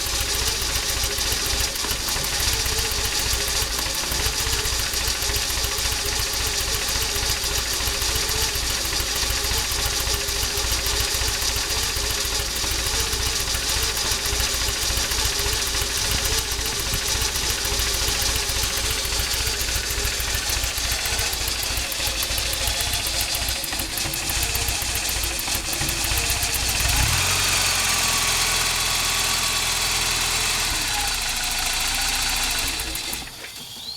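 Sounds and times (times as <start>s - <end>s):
car engine idling roughly: 0.0s - 33.8s.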